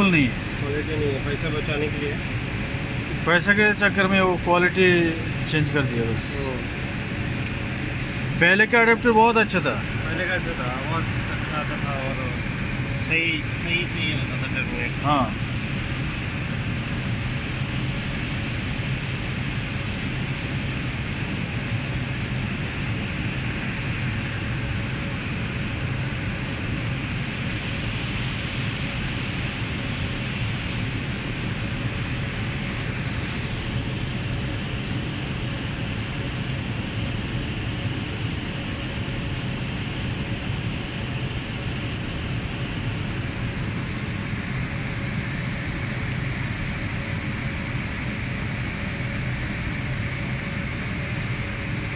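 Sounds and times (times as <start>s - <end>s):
cooling fans rushing: 0.0s - 51.9s
faint steady whine: 0.0s - 51.9s
low hum: 0.0s - 51.9s.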